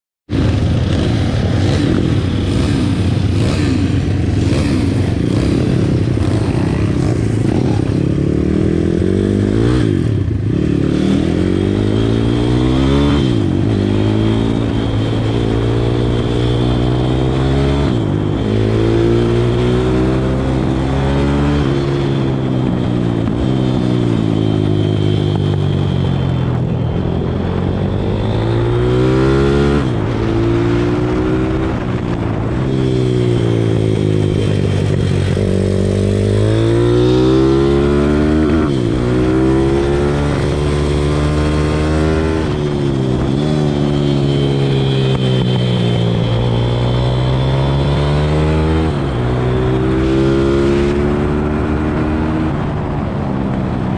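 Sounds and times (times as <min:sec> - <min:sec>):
pit bike engine revving: 0:00.4 - 0:25.9, 0:27.8 - 0:52.7.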